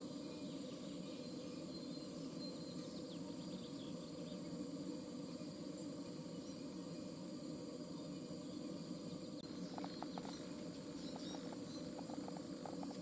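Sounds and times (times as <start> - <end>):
low background hum: 0.0 - 13.0
songbirds chirping: 0.0 - 13.0.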